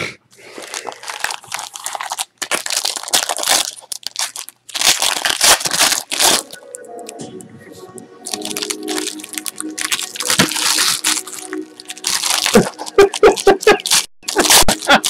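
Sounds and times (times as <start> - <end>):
foil wrappers crinkling and tearing: 0.4 - 7.2, 8.3 - 15.0.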